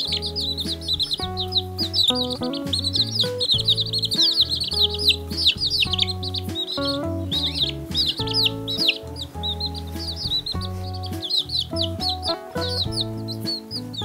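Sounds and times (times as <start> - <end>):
background music: 0.0 - 14.0
quail chicks peeping: 0.0 - 14.0.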